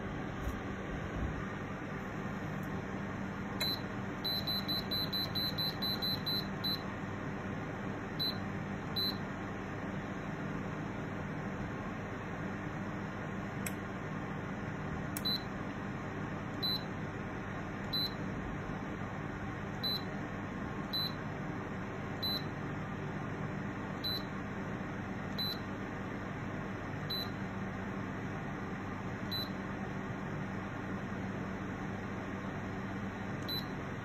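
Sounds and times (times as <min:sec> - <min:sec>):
fan heater blowing air: 0:00.0 - 0:34.0.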